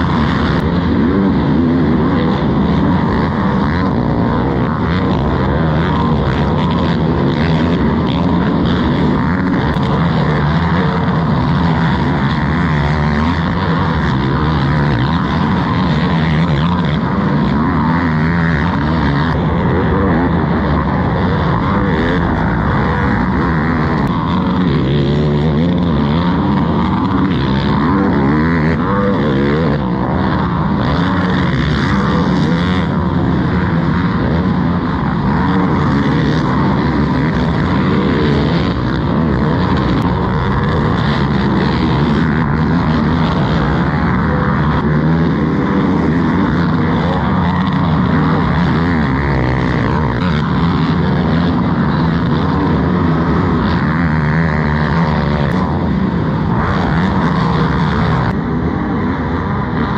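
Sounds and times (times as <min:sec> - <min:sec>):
quad engines revving: 0:00.0 - 0:59.9.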